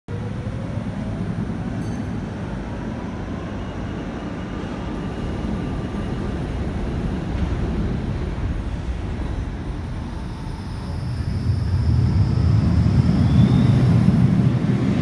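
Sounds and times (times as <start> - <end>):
tram low rumble: 0.1 - 15.0
faint high whine: 0.3 - 15.0.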